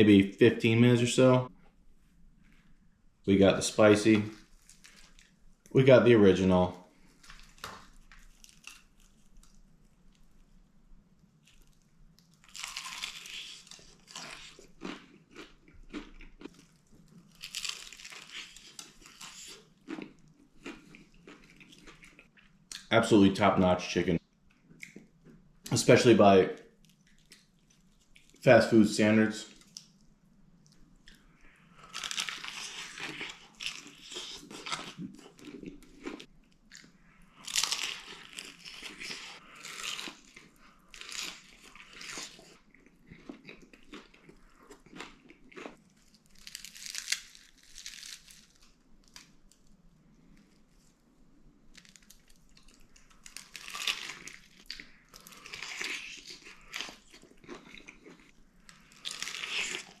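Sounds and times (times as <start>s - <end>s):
crunching and chewing fried chicken: 4.2s - 5.7s, 6.9s - 22.9s, 26.7s - 28.5s, 29.4s - 60.0s.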